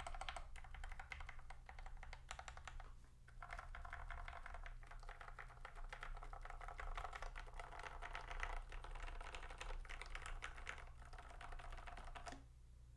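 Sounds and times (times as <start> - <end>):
fast mechanical keyboard typing: 0.0 - 12.4.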